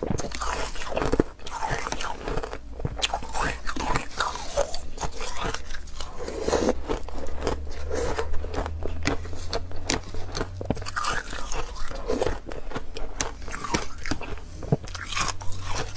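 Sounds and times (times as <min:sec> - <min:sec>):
crunchy chewing of ice: 0:00.0 - 0:15.9.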